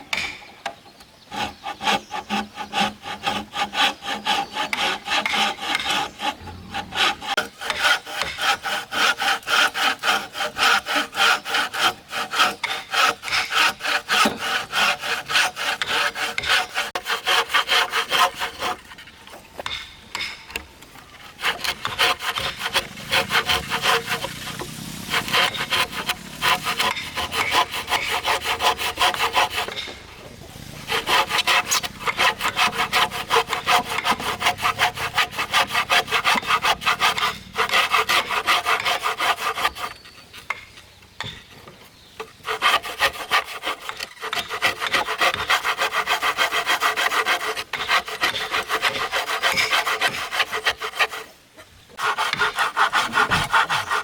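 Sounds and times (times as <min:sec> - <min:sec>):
saw cutting through wood: 0:01.3 - 0:40.7, 0:42.3 - 0:51.4, 0:52.0 - 0:54.0.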